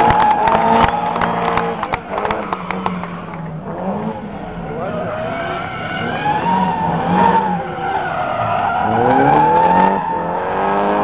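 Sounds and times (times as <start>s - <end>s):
car engine revving: 0.0s - 11.0s
tyres squealing: 0.0s - 11.0s.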